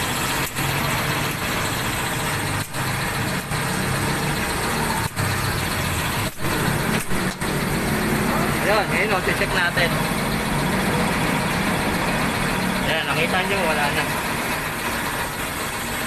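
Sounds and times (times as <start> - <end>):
air compressor hissing: 0.0 - 16.0.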